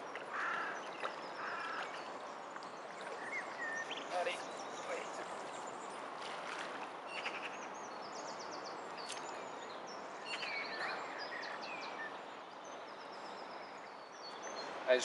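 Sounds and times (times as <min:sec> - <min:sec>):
small birds singing: 0:00.0 - 0:15.0.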